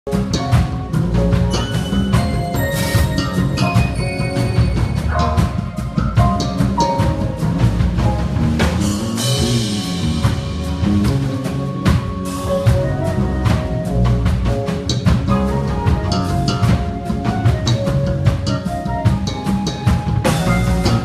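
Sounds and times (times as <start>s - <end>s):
bass line: 0.1s - 21.0s
drum kit hits: 0.1s - 21.0s
keyboard chords: 0.1s - 21.0s.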